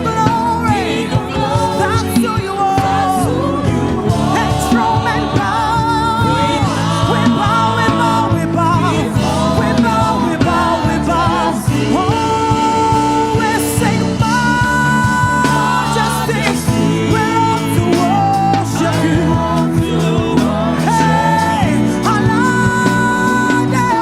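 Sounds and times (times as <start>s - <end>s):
backing vocals: 0.0s - 24.0s
church band playing: 0.0s - 24.0s
lead singer with vibrato: 0.0s - 24.0s.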